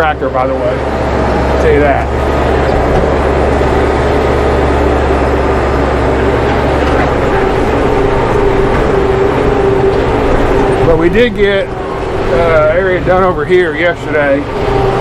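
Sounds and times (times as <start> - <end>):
steady whine: 0.0 - 15.0
tractor engine under load: 0.0 - 15.0.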